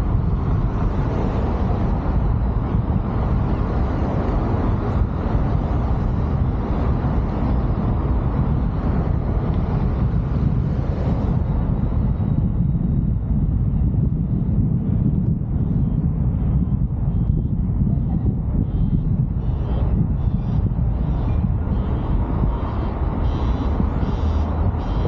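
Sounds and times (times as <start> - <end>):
car road noise: 0.0 - 25.0
wind buffeting microphone: 0.0 - 25.0.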